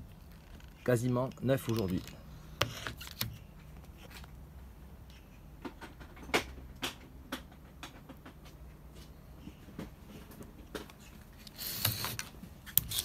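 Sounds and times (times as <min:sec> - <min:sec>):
handling clicks and knocks: 0:00.1 - 0:04.4, 0:05.6 - 0:13.0.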